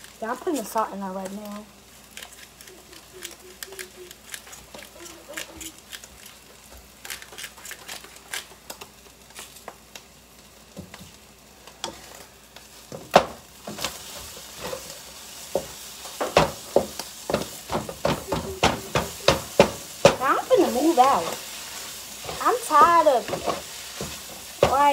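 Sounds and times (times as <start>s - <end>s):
eggs sizzling in a pan: 0.0s - 24.9s.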